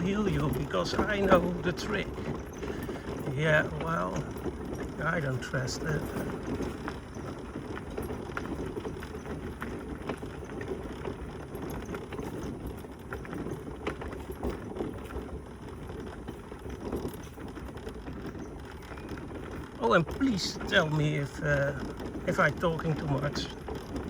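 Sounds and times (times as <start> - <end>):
mobility scooter rolling: 0.0 - 24.0
small clicks and rattles: 0.0 - 24.0.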